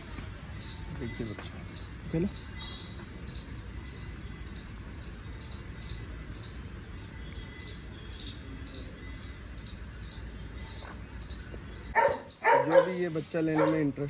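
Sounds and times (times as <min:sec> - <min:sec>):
faint high chirp: 0:00.0 - 0:13.9.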